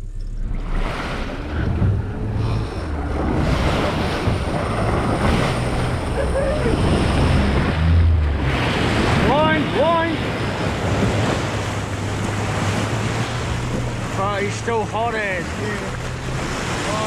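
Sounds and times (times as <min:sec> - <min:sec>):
low engine drone: 0:00.0 - 0:17.0
water rushing and splashing: 0:00.0 - 0:17.0
wind buffeting microphone: 0:00.0 - 0:17.0.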